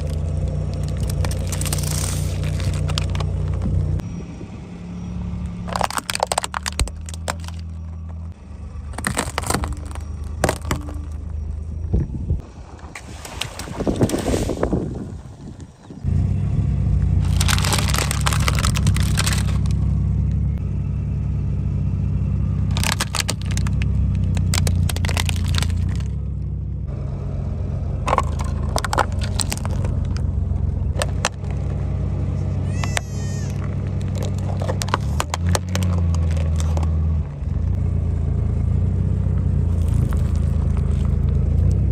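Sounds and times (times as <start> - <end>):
objects crunching under tyres: 0.0 - 4.1, 5.1 - 16.2, 16.8 - 20.6, 22.4 - 26.9, 28.0 - 41.9
car engine running: 0.0 - 12.8, 15.4 - 41.9.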